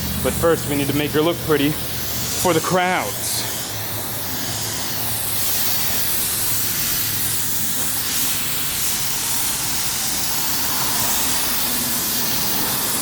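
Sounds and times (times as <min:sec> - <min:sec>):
high-pressure water spray hissing: 0:00.0 - 0:13.0.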